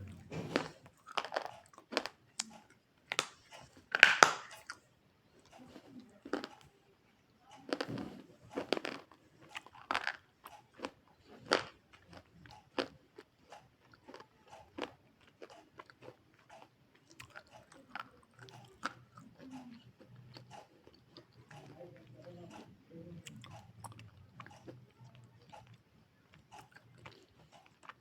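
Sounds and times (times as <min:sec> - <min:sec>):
crunchy food being bitten and chewed: 0:00.0 - 0:06.8, 0:07.5 - 0:28.0.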